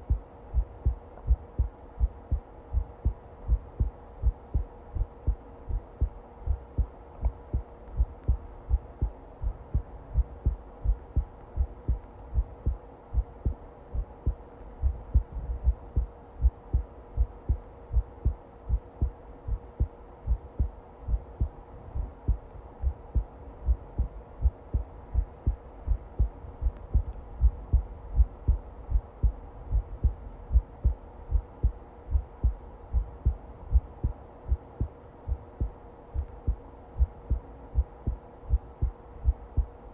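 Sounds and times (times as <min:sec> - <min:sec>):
heartbeat thumps: 0:00.0 - 0:39.7
faint steady hum: 0:00.0 - 0:39.9.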